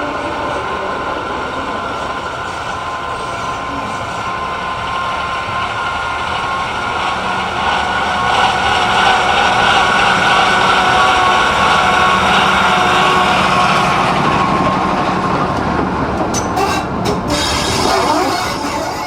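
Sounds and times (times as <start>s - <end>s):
rail vehicle engine drone: 0.0s - 19.0s.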